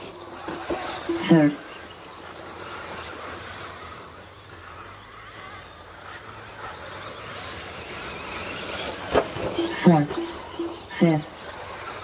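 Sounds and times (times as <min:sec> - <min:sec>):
faint motor whine: 0:00.0 - 0:12.0
steady noisy background: 0:00.0 - 0:12.0.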